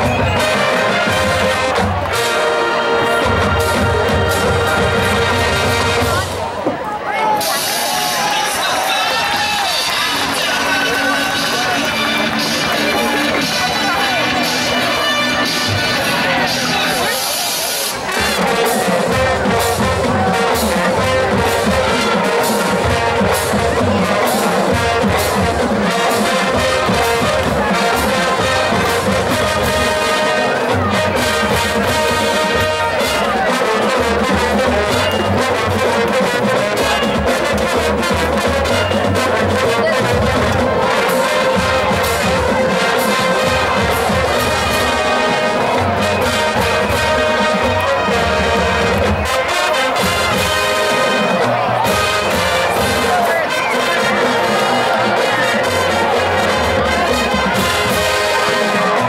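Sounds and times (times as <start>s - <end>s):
drumline beating: 0.0s - 59.0s
trumpets and sousaphones: 0.0s - 59.0s.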